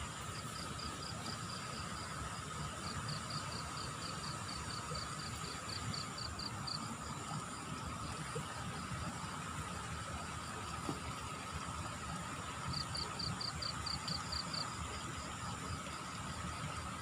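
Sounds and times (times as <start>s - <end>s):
insects chirping: 0.0s - 11.0s, 11.6s - 17.0s.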